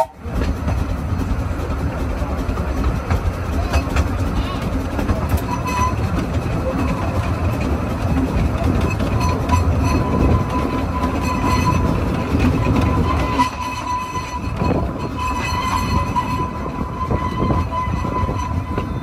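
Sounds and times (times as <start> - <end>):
small steam train rumbling: 0.0 - 19.0.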